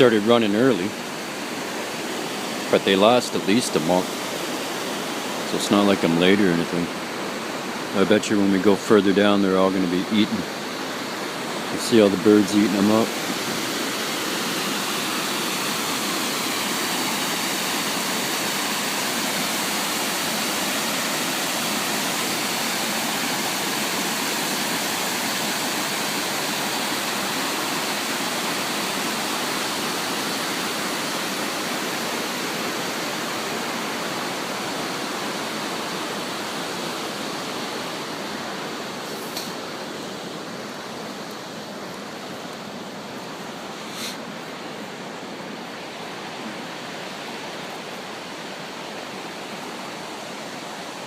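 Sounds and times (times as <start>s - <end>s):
river rapids rushing: 0.0s - 51.0s.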